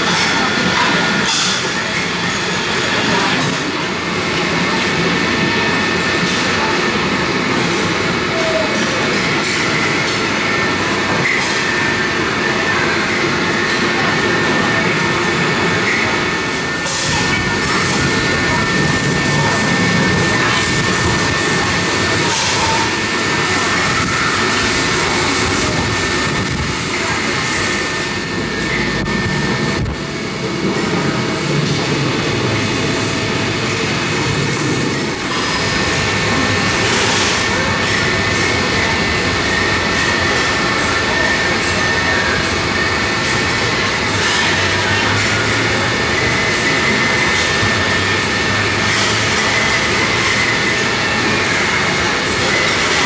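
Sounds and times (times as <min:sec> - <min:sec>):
kitchen and ventilation noise: 0:00.0 - 0:53.0
many overlapping voices: 0:00.0 - 0:53.0
thin steady high whine: 0:00.0 - 0:53.0.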